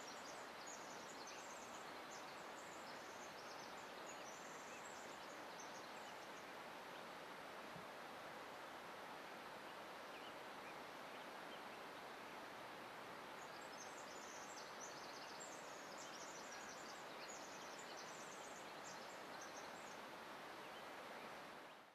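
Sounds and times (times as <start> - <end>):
outdoor background hiss: 0.0 - 21.9.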